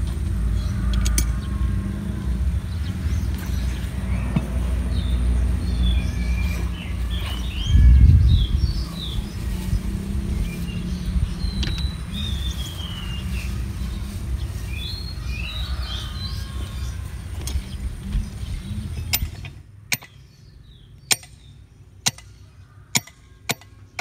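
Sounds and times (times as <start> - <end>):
steady low rumble: 0.0 - 19.9
small birds chirping: 0.0 - 24.0.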